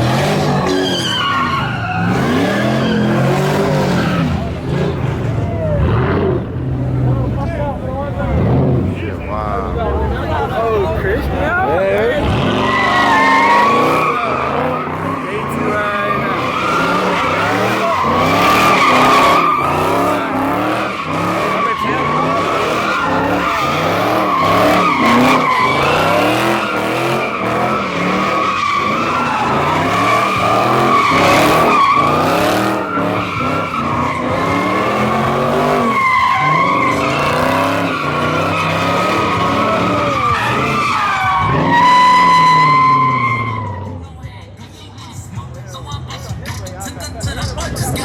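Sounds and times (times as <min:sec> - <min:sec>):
car engine revving: 0:00.0 - 0:48.0
tires squealing: 0:00.0 - 0:48.0.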